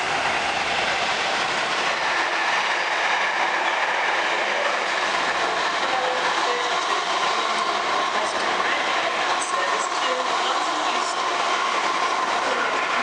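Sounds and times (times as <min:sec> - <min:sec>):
train wheels rushing on rails: 0:00.0 - 0:13.0.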